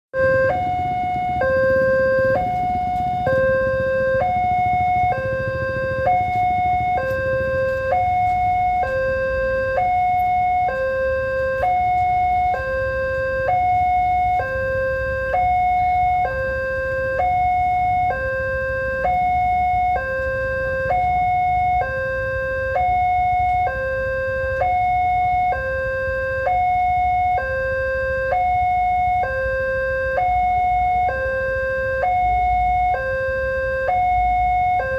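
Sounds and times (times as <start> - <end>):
two-tone level crossing alarm: 0.1 - 34.9.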